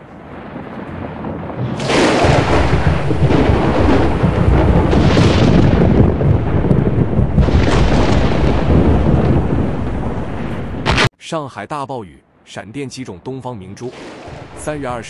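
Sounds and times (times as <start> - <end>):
heavy rain: 0.0 - 11.0, 13.9 - 15.0
thunder crack and rumble: 0.0 - 11.1, 13.9 - 15.0.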